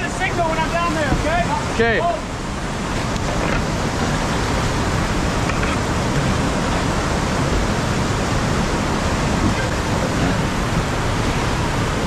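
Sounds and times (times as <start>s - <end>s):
whitewater rapids rushing: 0.0s - 12.0s.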